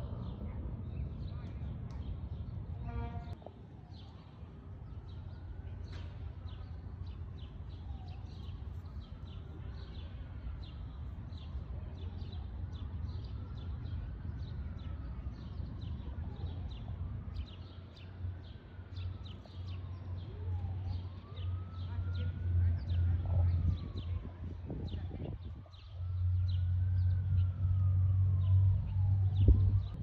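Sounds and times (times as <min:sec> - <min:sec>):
low city rumble: 0:00.0 - 0:30.0
faint siren wailing: 0:03.4 - 0:30.0.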